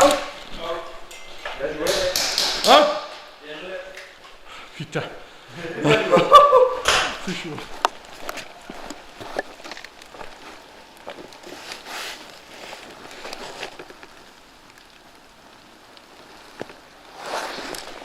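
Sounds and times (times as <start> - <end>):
rustling crackling noise: 0.0 - 18.0.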